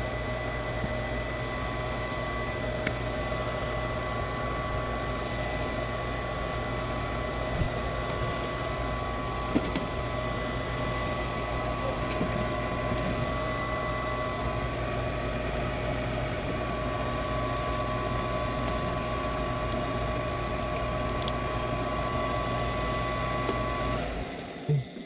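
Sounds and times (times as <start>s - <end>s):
furnace inducer motor humming: 0.0s - 25.0s.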